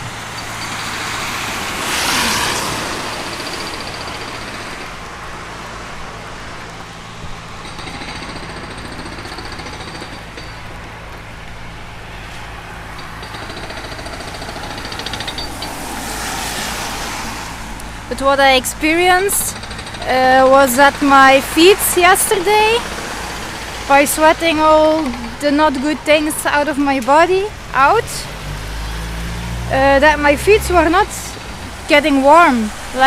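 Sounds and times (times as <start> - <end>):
vehicle passing: 0.0 - 7.6, 11.2 - 33.0.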